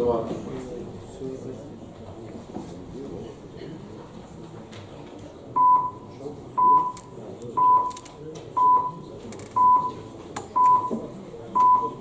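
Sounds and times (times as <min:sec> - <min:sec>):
low murmur of voices: 0:00.0 - 0:12.0.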